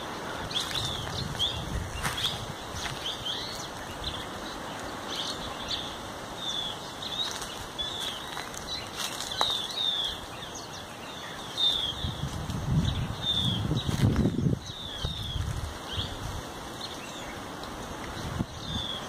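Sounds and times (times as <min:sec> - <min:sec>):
leaves rustling: 0:00.0 - 0:19.0
outdoor background hiss: 0:00.0 - 0:19.0
small birds chirping: 0:00.0 - 0:19.0.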